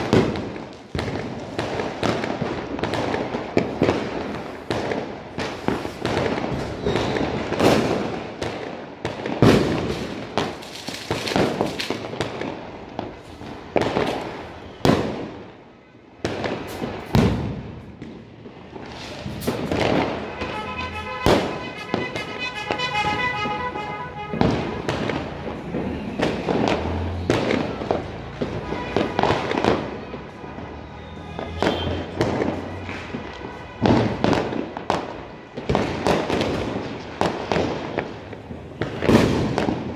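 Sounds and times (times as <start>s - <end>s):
firecrackers banging: 0.0s - 39.9s.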